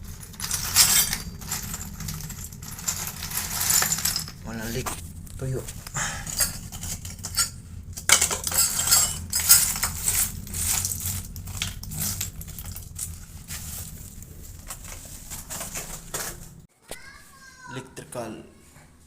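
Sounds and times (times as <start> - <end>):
small hard objects clinking: 0.0 - 16.7
steady low hum: 0.0 - 16.7.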